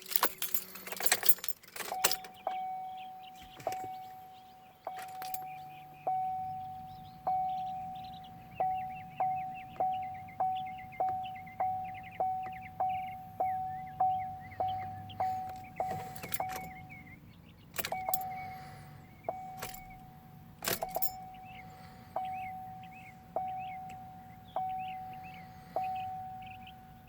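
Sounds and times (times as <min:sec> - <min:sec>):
car warning chime dinging: 0:00.0 - 0:27.0
faint bird chirps: 0:01.9 - 0:20.2, 0:20.8 - 0:27.0.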